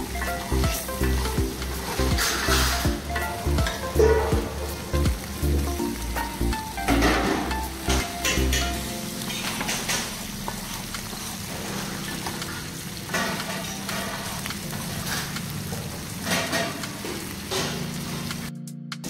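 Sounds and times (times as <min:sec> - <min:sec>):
fish sizzling in oil: 0:00.0 - 0:18.5.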